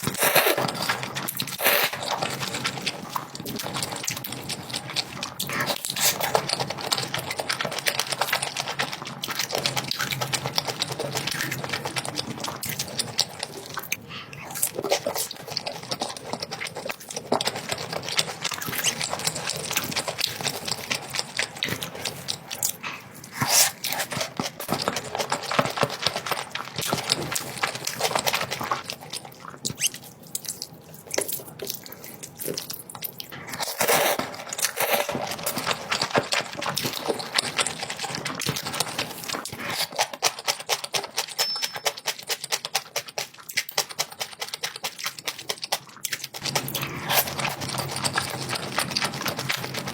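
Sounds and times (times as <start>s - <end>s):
wet chewing: 0.0s - 49.9s.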